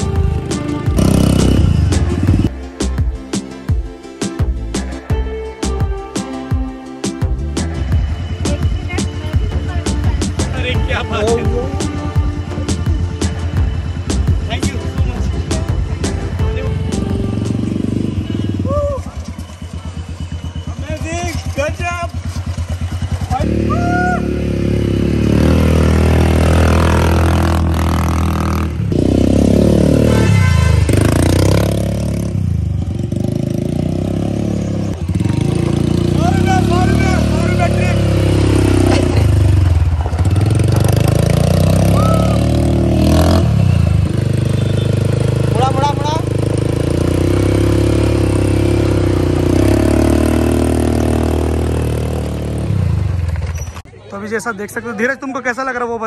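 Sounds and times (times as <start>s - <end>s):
quad bike engine revving: 0.0s - 2.5s, 7.6s - 53.8s.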